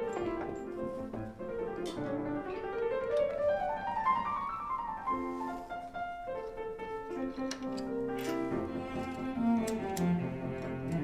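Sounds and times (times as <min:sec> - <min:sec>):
classical piano and strings: 0:00.0 - 0:11.0.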